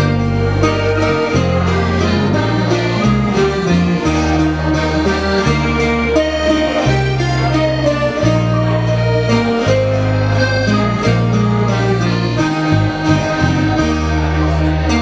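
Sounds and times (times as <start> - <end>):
piano accordion folk tune: 0.0 - 15.0
strummed acoustic guitars: 0.0 - 15.0.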